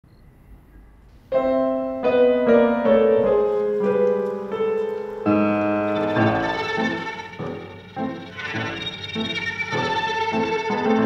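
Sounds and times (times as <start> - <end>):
gentle piano melody: 1.2 - 11.0.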